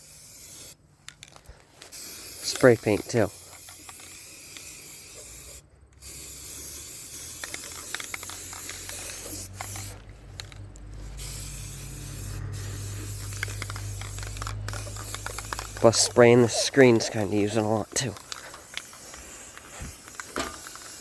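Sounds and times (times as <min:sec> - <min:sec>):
spray paint can hissing: 0:00.0 - 0:01.2, 0:01.8 - 0:21.0.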